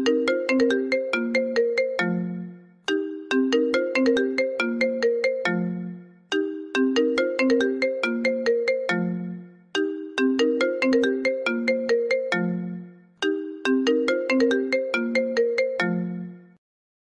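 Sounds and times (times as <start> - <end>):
phone ringtone melody: 0.0 - 16.6.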